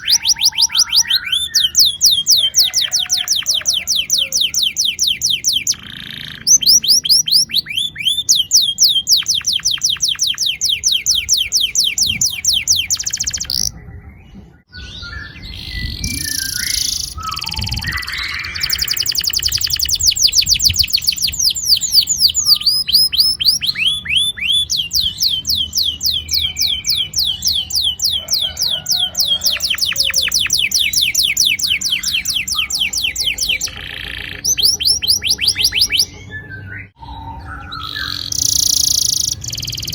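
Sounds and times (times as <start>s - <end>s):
bird chirps and calls: 0.0s - 39.9s
canary singing rolling trills: 0.0s - 39.9s.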